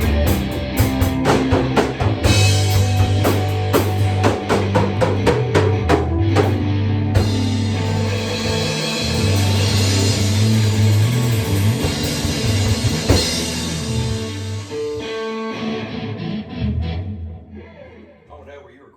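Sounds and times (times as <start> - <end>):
rock music with guitar and drums: 0.0 - 18.2.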